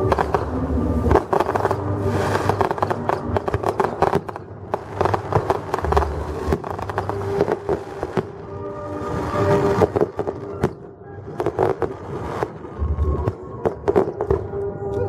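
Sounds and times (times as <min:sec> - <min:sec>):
fireworks crackling: 0:00.0 - 0:14.5.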